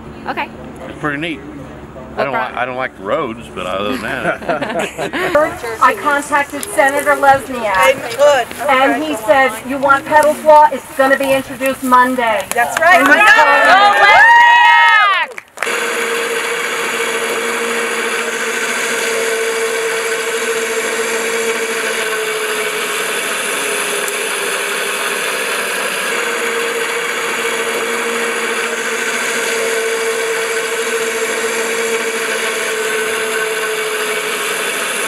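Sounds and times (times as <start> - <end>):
motor humming: 0.0 - 35.0.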